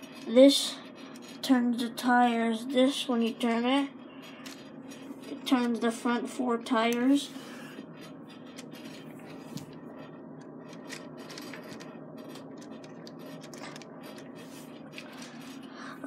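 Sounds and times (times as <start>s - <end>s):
plastic parts scratching and clicking: 0.0s - 2.4s, 3.2s - 15.7s
steady low hum: 0.0s - 16.0s.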